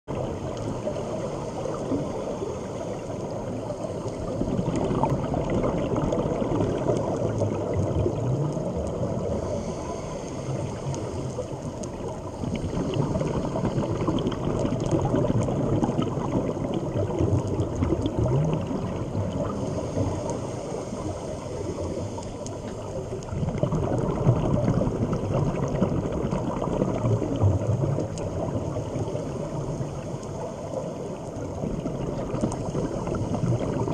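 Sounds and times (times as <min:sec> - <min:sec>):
underwater regulator bubbling: 0:00.1 - 0:33.9.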